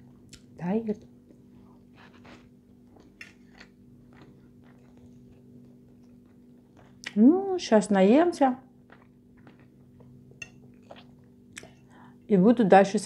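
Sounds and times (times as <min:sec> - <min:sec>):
steady low hum: 0:00.0 - 0:13.0
soft chewing: 0:00.1 - 0:07.2, 0:08.6 - 0:12.1.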